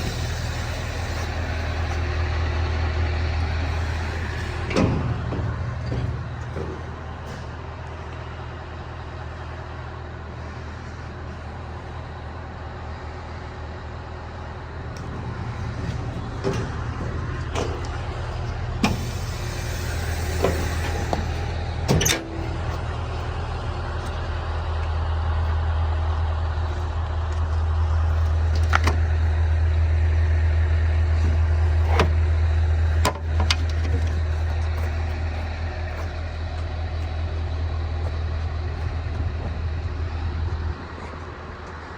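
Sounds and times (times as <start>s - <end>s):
diesel engine idling: 0.0s - 41.9s.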